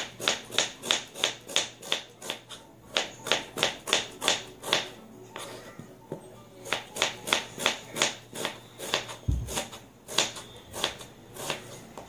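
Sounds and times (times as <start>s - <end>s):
knife slicing onion on board: 0.0s - 5.5s, 6.6s - 12.0s.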